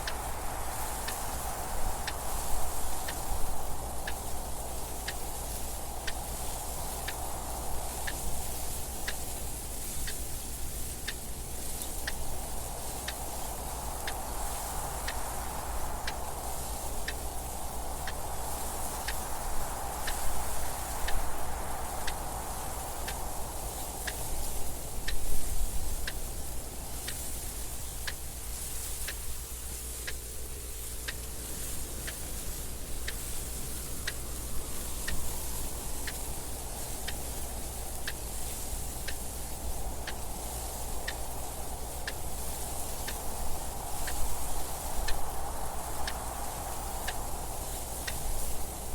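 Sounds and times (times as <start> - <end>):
wind noise: 0.0 - 48.9
clock ticking: 1.0 - 9.3, 10.0 - 10.3, 10.9 - 18.3, 20.0 - 21.3, 22.8 - 29.4, 30.0 - 48.8.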